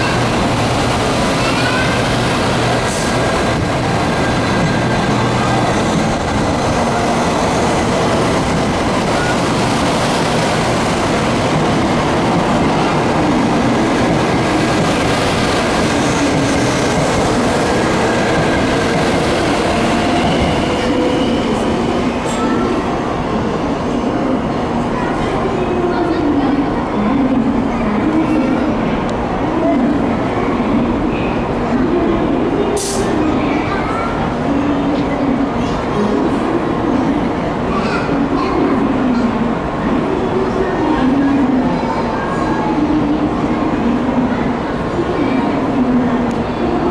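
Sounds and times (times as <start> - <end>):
train rumbling on rails: 0.0 - 46.9
train whine: 0.0 - 46.9.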